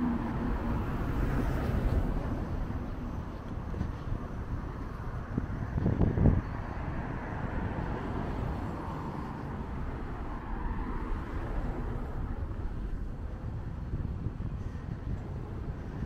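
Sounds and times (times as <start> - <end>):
cars passing by: 0.0 - 16.0.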